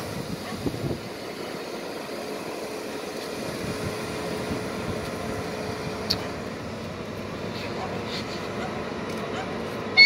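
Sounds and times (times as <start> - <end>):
electric locomotive hum: 0.0 - 10.0.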